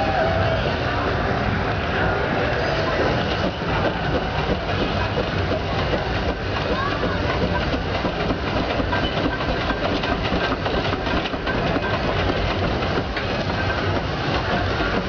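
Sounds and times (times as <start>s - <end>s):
steam traction engine running: 0.0s - 15.0s.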